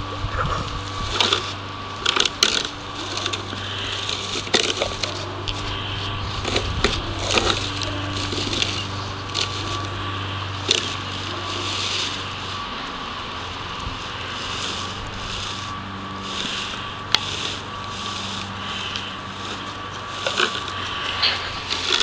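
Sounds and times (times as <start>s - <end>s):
rake dragged through dry leaves: 0.0s - 22.0s
steady low hum: 0.0s - 22.0s.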